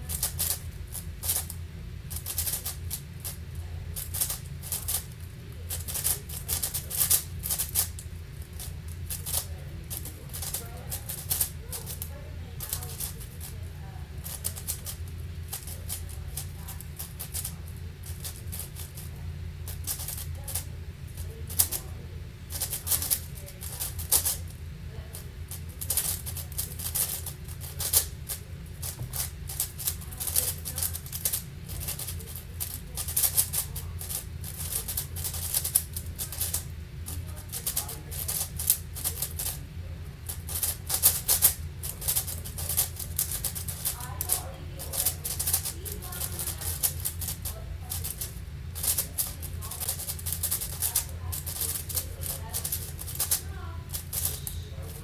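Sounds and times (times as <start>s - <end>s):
steady low hum: 0.0s - 55.0s
plastic puzzle cube clacking: 1.2s - 3.4s, 4.0s - 13.5s, 14.2s - 19.1s, 19.7s - 20.7s, 21.5s - 21.8s, 22.5s - 24.4s, 25.6s - 39.6s, 40.3s - 54.5s.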